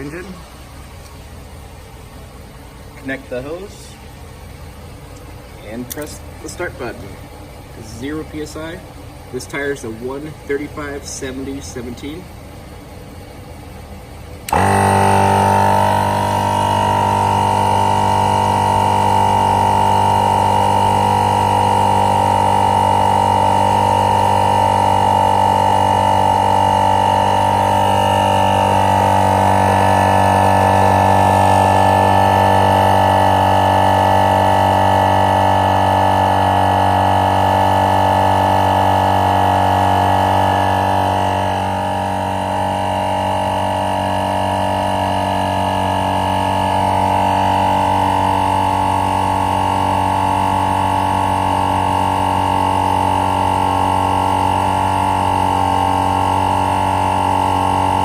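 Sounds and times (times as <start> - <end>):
air compressor droning: 0.0 - 58.0.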